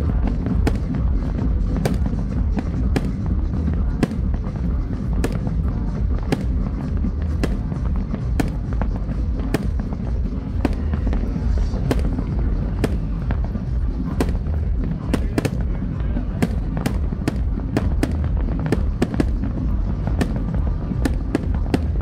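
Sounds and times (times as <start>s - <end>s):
fireworks bangs: 0.0s - 22.0s
low rumble: 0.0s - 22.0s
music playing: 0.0s - 22.0s.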